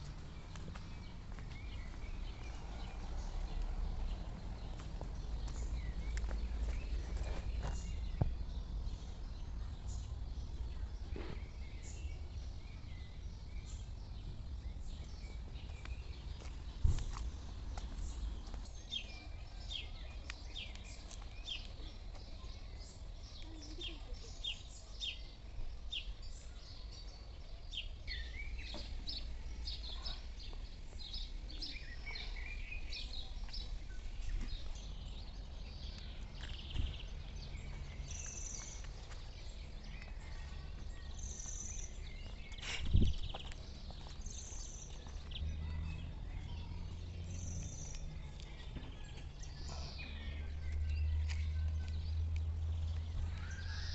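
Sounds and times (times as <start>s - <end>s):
birds chirping and trilling: 0.0s - 53.9s.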